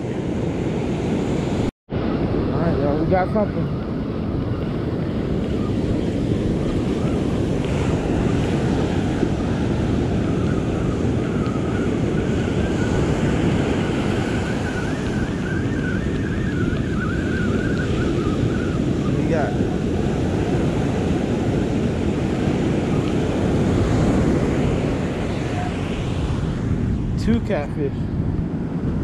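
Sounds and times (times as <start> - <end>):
ocean surf washing up beach: 0.0 - 29.0
wind rumbling on microphone: 0.0 - 29.0.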